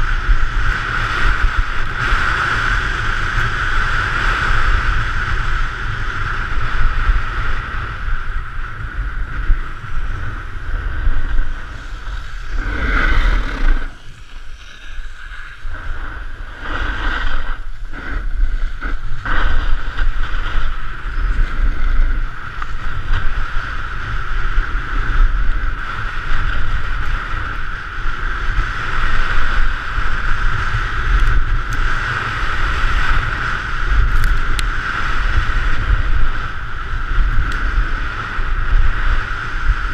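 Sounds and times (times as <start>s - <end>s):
skis carving on hard snow: 0.0s - 39.9s
wind buffeting microphone: 0.0s - 39.9s.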